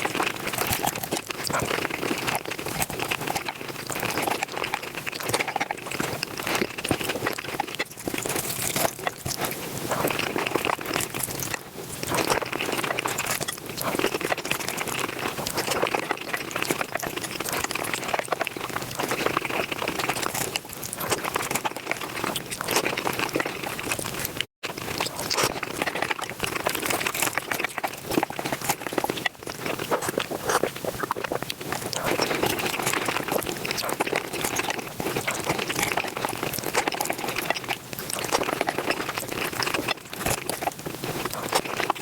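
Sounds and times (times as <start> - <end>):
sped-up crunching and chewing: 0.0 - 42.0.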